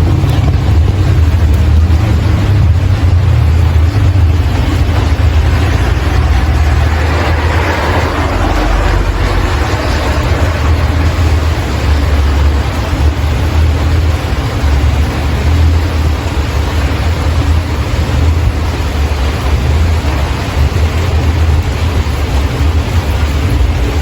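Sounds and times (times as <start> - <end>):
deep low rumble: 0.0 - 24.0
rain hissing: 0.0 - 24.0.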